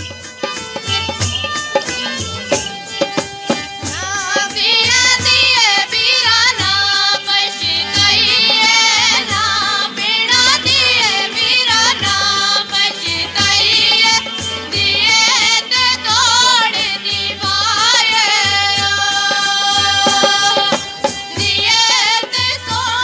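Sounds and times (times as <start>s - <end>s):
steady drum beat: 0.0s - 23.0s
women singing: 0.8s - 23.0s.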